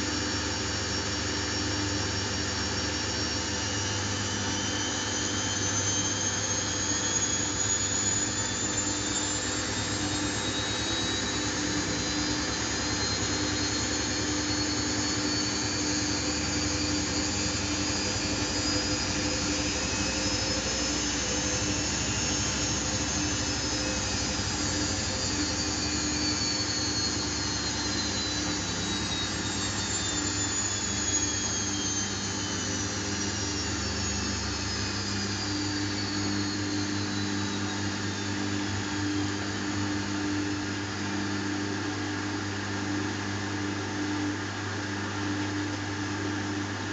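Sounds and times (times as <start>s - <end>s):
high electronic whine: 0.0s - 46.9s
washing machine spinning: 0.0s - 46.9s.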